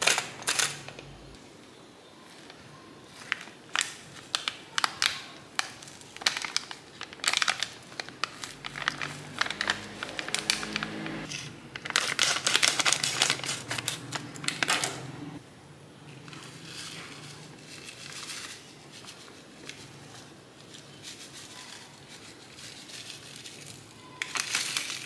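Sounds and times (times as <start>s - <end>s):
plastic sachet crackling: 2.4s - 15.2s, 16.3s - 25.0s.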